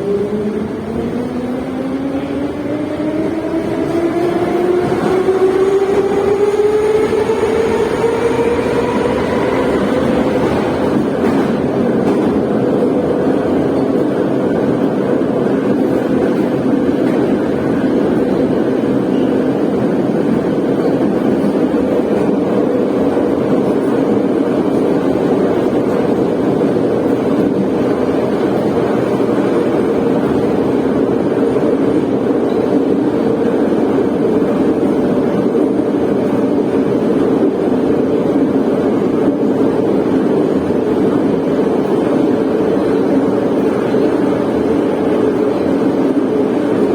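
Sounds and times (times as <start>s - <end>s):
train wheels rumbling in tunnel: 0.0s - 46.9s.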